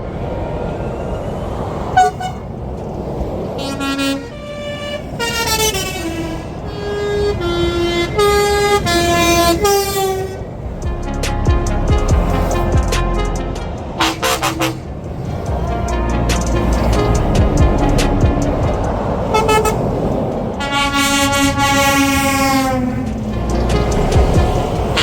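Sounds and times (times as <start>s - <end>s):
motorway traffic: 0.0s - 25.0s
truck horn: 2.0s - 2.6s, 3.6s - 25.0s.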